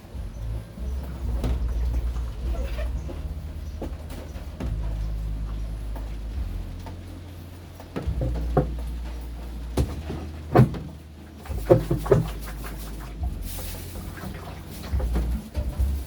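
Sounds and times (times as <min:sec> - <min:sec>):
washing machine motor humming: 0:00.0 - 0:16.0
washing machine knocks and clatters: 0:00.2 - 0:07.1, 0:07.7 - 0:16.0.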